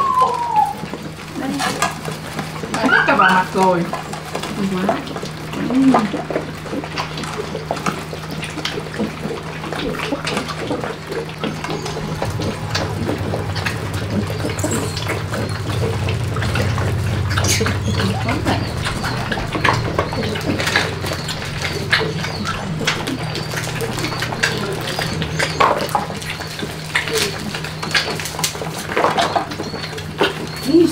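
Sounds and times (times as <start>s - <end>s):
puppies lapping and chewing: 0.0s - 30.9s
steady low hum: 3.4s - 29.0s.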